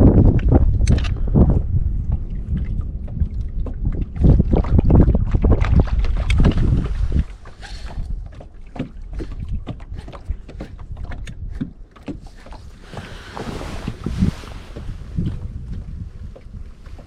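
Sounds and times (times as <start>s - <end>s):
wind buffeting microphone: 0.0s - 17.0s
small knocks and clicks on boat: 0.2s - 17.0s.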